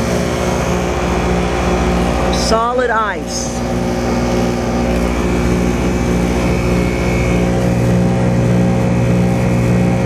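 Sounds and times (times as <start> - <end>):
heat pump compressor hum and fan: 0.0 - 10.0.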